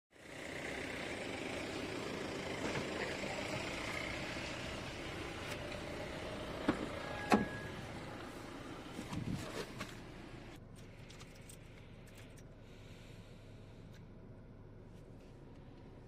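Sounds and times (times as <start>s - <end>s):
car engine idling: 0.2s - 16.0s.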